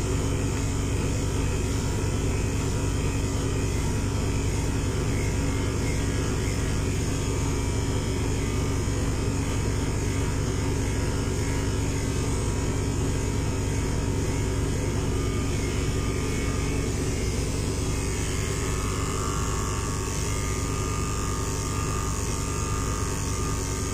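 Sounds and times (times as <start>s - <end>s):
electric hair clipper humming: 0.0s - 23.9s.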